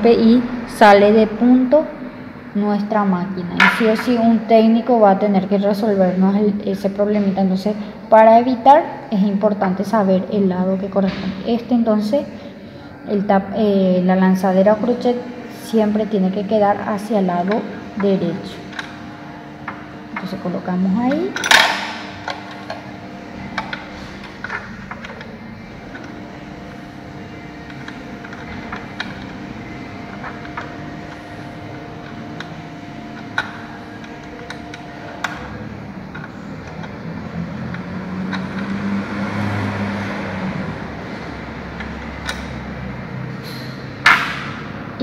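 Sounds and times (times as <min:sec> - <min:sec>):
mechanical hum: 0:00.0 - 0:45.0.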